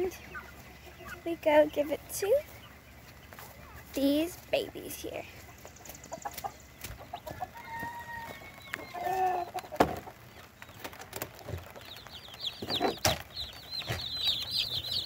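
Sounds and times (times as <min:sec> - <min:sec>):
adult chickens clucking: 0:00.0 - 0:15.0
chicks peeping: 0:00.0 - 0:15.0.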